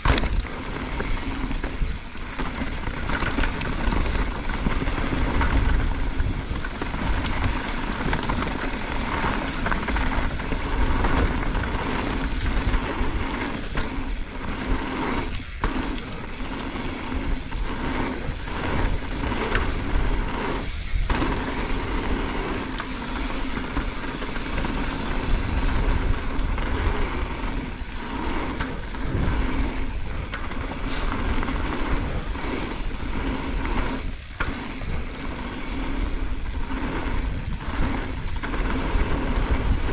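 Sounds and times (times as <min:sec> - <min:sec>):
bike tyres and rattling: 0:00.0 - 0:39.9
wind rushing over microphone: 0:00.0 - 0:39.9.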